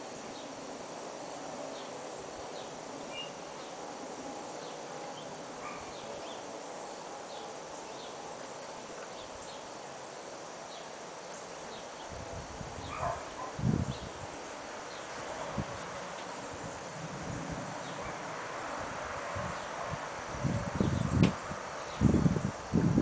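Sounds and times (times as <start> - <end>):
faint insect buzz: 0.0 - 23.0
outdoor field hiss: 0.0 - 23.0.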